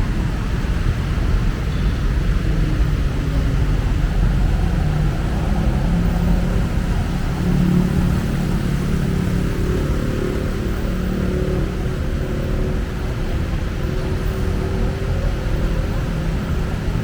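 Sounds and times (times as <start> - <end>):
street traffic engines rumbling: 0.0 - 17.0.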